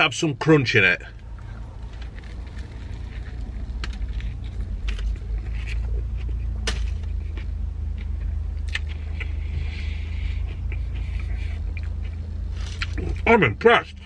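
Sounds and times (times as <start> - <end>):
steady low rumble: 0.0 - 14.0
chewing crunchy food: 1.2 - 13.2.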